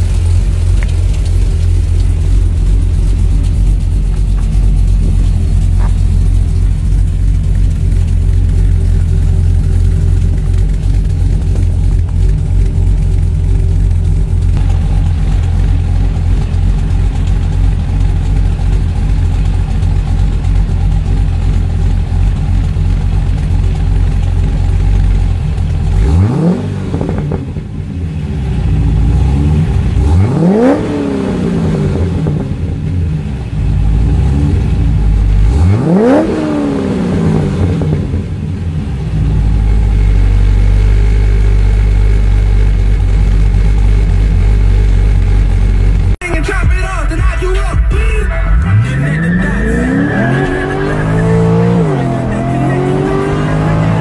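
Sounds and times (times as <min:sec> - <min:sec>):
car engine idling: 0:00.0 - 0:54.0
car engine revving: 0:00.0 - 0:54.0.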